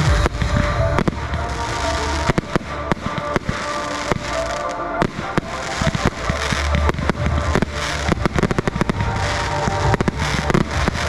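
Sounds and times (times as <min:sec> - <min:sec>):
fireworks bangs and crackles: 0:00.0 - 0:11.0
music: 0:00.0 - 0:11.0.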